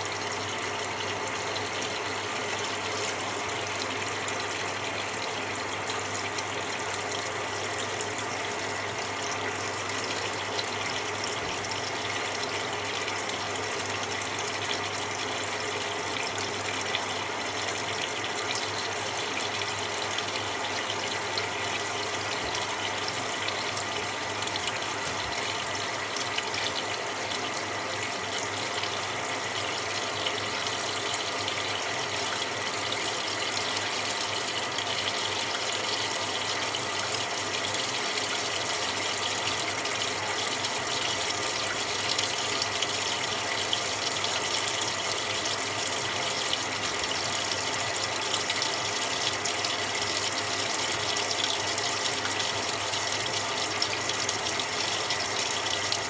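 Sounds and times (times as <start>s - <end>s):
water pouring into washing machine: 0.0s - 56.0s.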